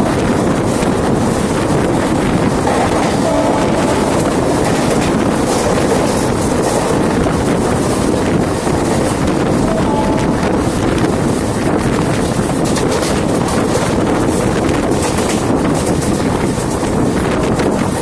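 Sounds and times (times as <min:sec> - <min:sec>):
moving train rumble: 0:00.0 - 0:18.0
wind buffeting microphone: 0:00.0 - 0:18.0.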